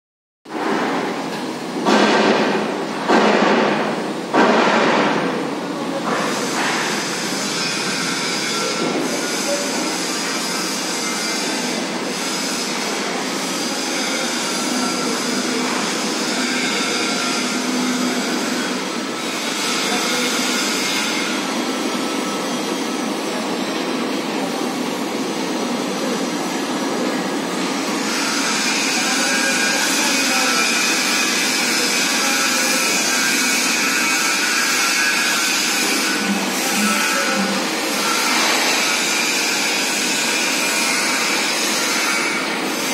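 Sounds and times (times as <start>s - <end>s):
conveyor whine and hum: 0.5s - 42.9s.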